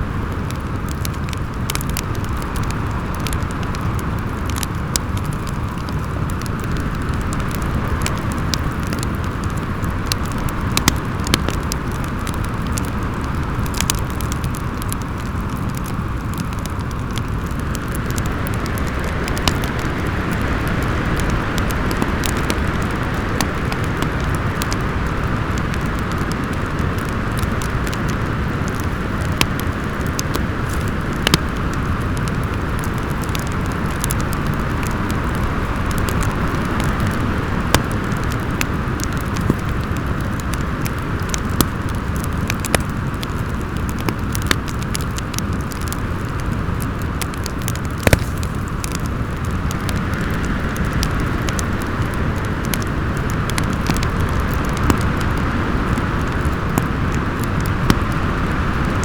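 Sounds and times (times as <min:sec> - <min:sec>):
rushing wind: 0:00.0 - 0:59.0
wood fire crackling: 0:00.0 - 0:59.0.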